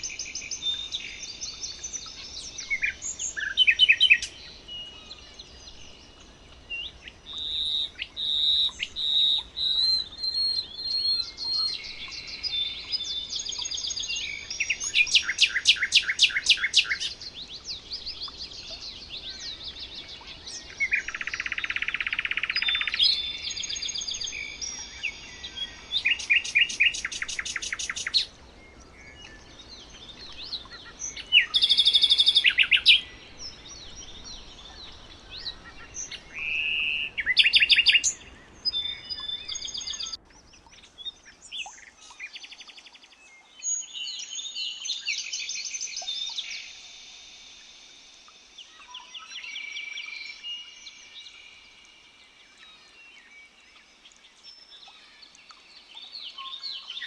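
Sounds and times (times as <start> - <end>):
birds chirping and trilling: 0.0 - 57.0
low background hiss: 0.0 - 57.0.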